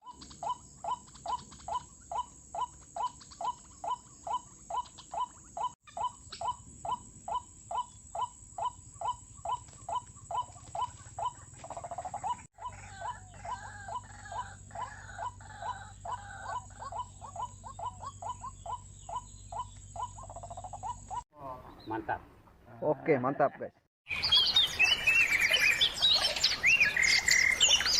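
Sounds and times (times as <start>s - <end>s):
waterhen croaking calls: 0.0s - 22.2s, 24.1s - 27.9s.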